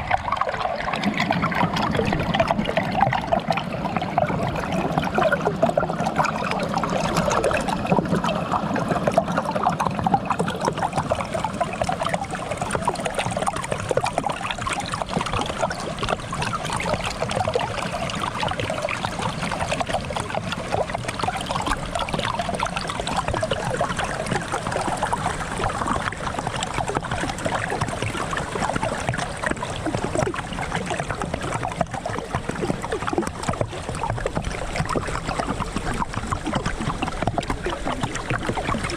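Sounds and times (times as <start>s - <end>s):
stream gurgling under ice: 0.0s - 38.9s.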